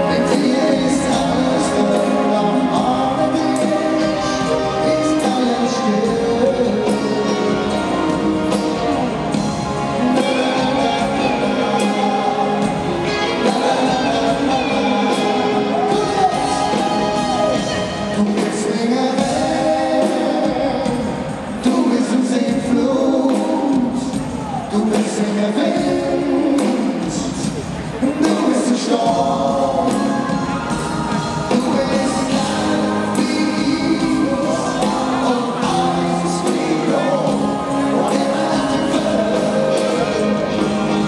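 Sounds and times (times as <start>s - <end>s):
crowd singing along: 0.0s - 41.0s
loud sing-along song: 0.0s - 41.0s.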